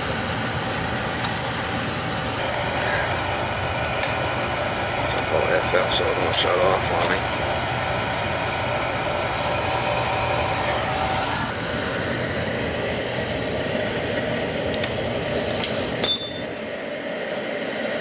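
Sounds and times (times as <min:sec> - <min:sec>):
oil burner motor whine: 0:00.0 - 0:18.0.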